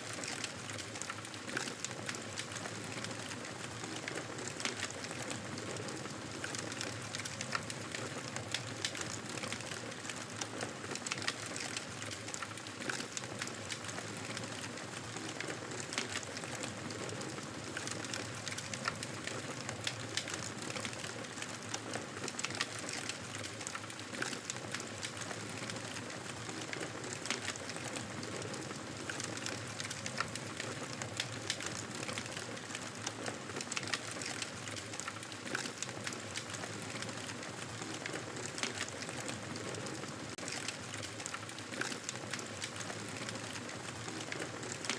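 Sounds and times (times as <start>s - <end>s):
burning wood crackling and popping: 0.1s - 44.9s.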